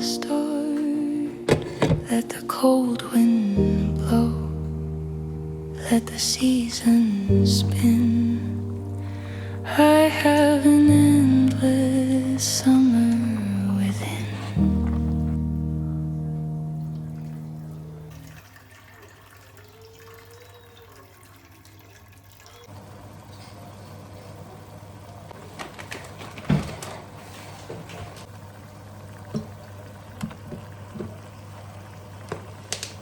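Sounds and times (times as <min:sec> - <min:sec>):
water running: 0:00.0 - 0:25.4, 0:27.8 - 0:33.0.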